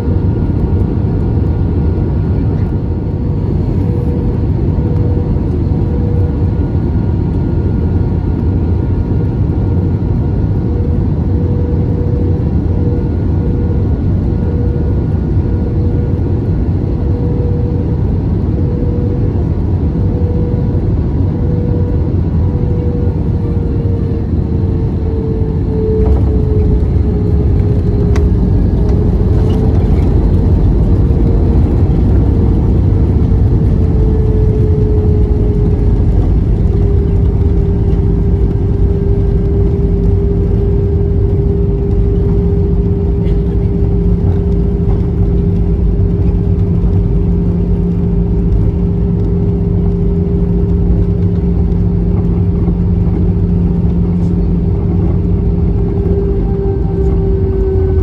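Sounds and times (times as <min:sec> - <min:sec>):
jet engines rumbling from cabin: 0:00.0 - 0:58.0.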